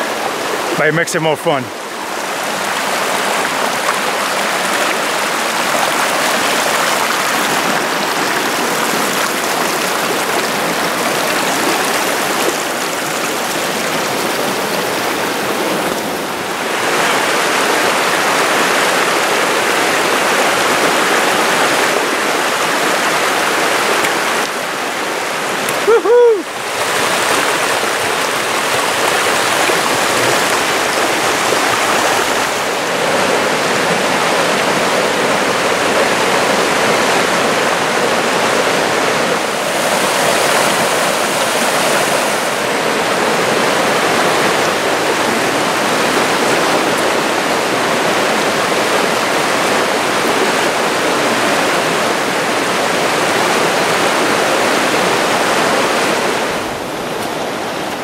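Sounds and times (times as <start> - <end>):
creek burbling over rocks: 0.0 - 58.0.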